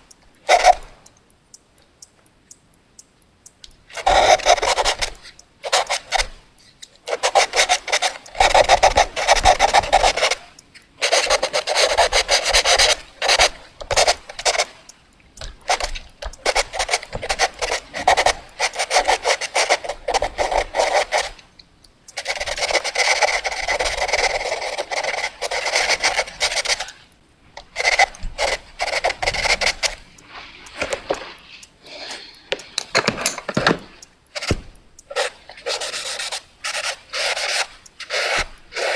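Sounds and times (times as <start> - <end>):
drawing tool scratching on paper: 0.5 - 0.9, 4.0 - 6.4, 7.1 - 14.7, 15.4 - 21.4, 22.2 - 27.0, 27.6 - 38.9.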